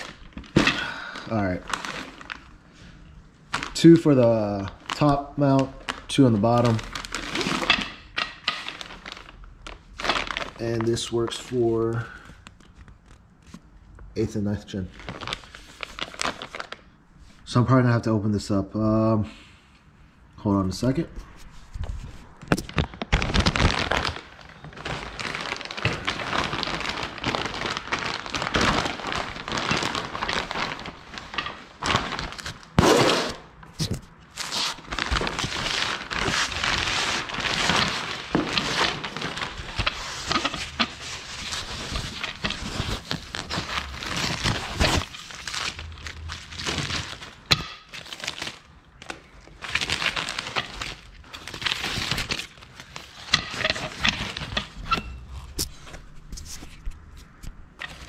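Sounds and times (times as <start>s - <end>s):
plastic and foam wrap crinkling: 0.0s - 16.9s, 20.8s - 58.0s.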